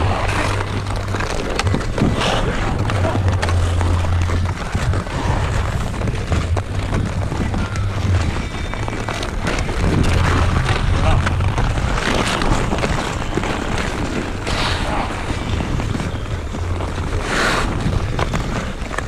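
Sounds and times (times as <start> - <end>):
hockey sticks clicking on puck: 0.0 - 19.0
skate blades scraping ice: 0.0 - 19.0
wind rumble on microphone: 0.0 - 19.0.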